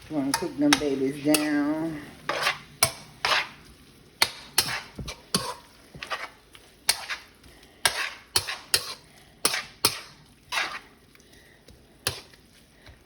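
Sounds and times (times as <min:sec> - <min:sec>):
utensil scraping and knocking pan: 0:00.2 - 0:11.0.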